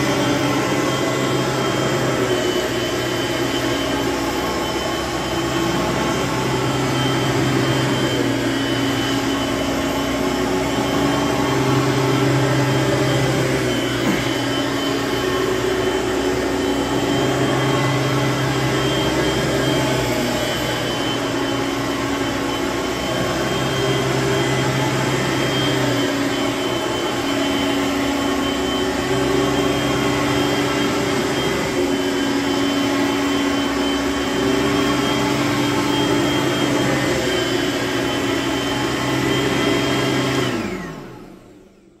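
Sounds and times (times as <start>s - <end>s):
vacuum cleaner running on carpet: 0.0s - 42.0s.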